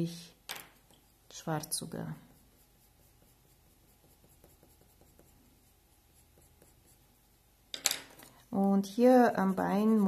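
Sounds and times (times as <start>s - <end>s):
pencil scratching on paper: 0.8s - 7.5s, 8.2s - 10.0s.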